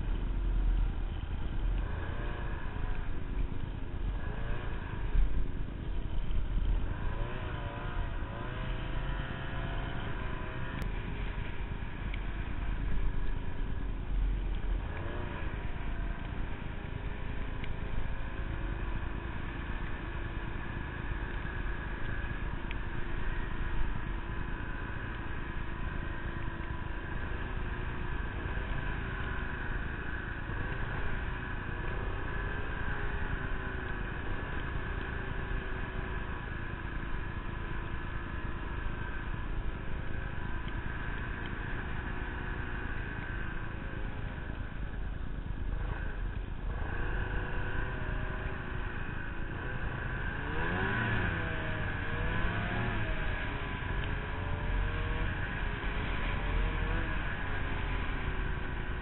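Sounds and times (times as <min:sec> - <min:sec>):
constant rushing noise: 0:00.0 - 0:59.0
snowmobile engine: 0:00.0 - 0:59.0.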